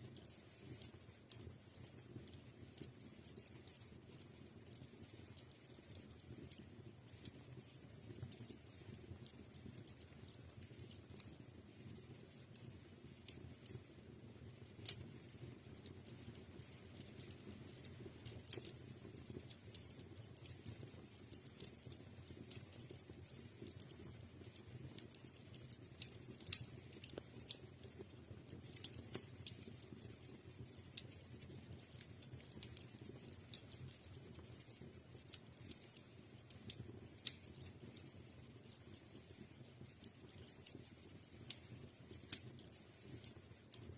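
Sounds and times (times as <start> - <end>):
fire crackling in fireplace: 0.0 - 43.9.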